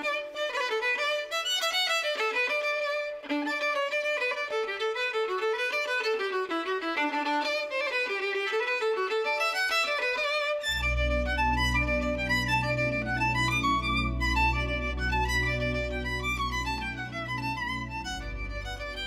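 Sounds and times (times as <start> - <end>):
lively fiddle tune: 0.0 - 19.0.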